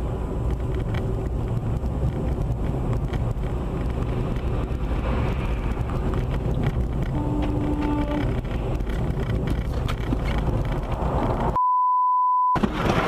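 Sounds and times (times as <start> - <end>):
car road and engine noise: 0.0 - 11.6
faint wind noise: 0.0 - 11.6.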